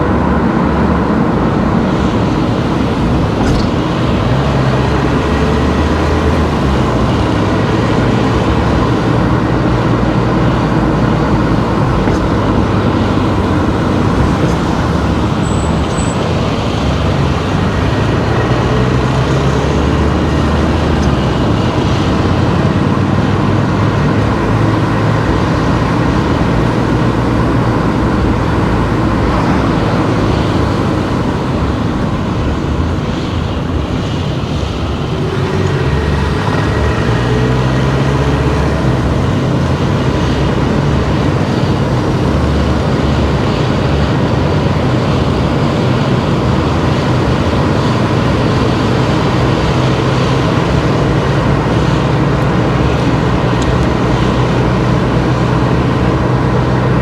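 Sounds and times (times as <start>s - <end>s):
low engine hum: 0.0s - 57.0s
tyre and road noise: 0.0s - 57.0s.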